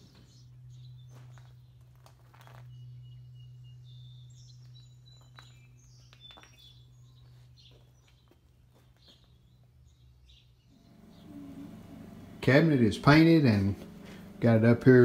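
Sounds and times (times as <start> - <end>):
birds chirping and whistling: 0.0 - 12.2
steady low hum: 0.0 - 15.0.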